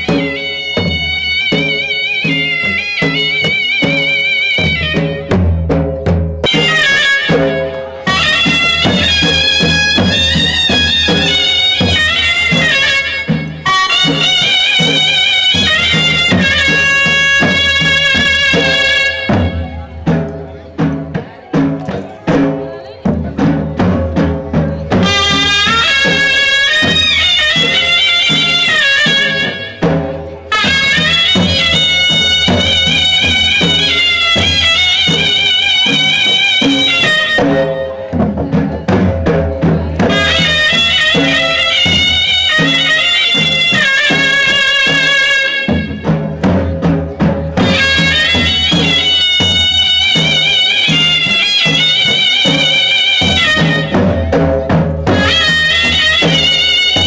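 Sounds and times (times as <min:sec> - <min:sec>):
reedy wind instrument melody: 0:00.0 - 0:05.6, 0:06.4 - 0:20.7, 0:24.8 - 0:38.3, 0:39.9 - 0:57.0
steady drum beat: 0:00.0 - 0:57.0.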